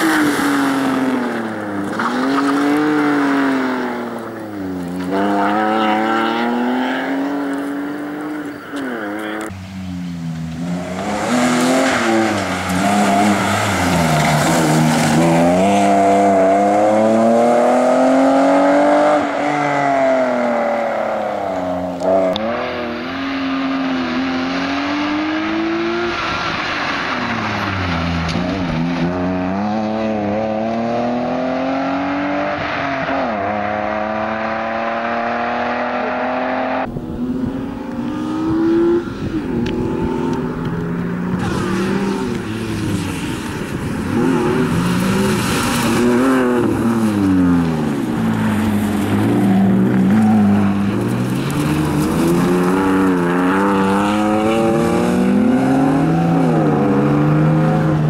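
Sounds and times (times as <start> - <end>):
car engine revving hard: 0.0 - 9.5, 10.5 - 26.4, 28.3 - 40.6, 49.0 - 58.0.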